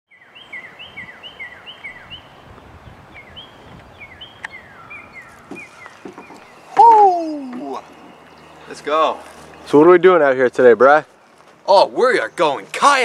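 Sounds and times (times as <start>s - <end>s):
bird chirping: 0.1s - 13.0s.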